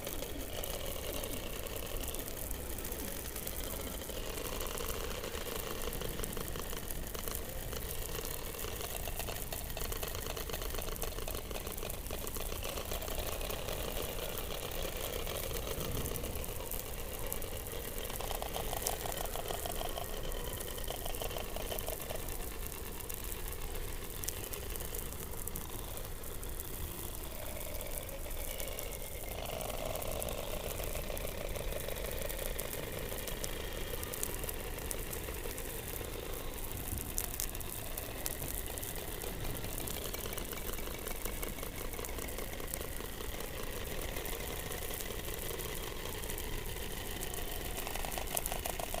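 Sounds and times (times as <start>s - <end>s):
background hiss: 0.0s - 49.0s.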